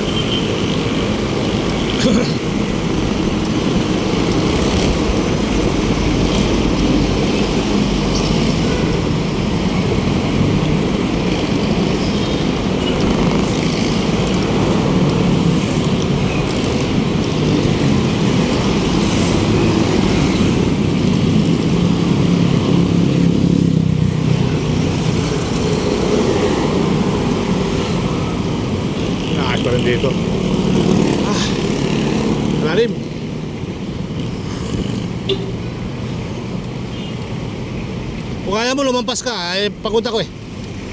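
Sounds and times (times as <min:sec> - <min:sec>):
city road traffic: 0:00.0 - 0:40.9.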